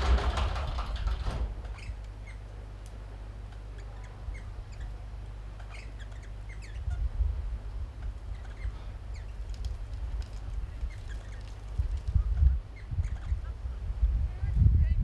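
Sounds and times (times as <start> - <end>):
birds chirping and squawking: 0.0 - 2.5, 3.4 - 14.0.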